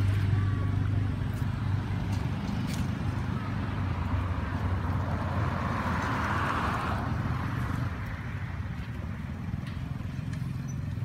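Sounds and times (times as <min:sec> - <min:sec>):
traffic rumble: 0:00.0 - 0:11.0
vehicle passing by: 0:00.0 - 0:11.0.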